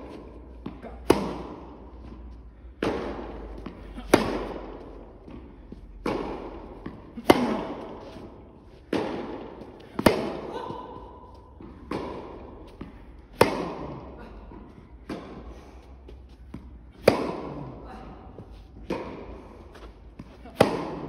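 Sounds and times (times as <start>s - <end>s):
distant dull tennis shots echoing: 0.0s - 21.0s
racket striking tennis ball: 0.0s - 21.0s.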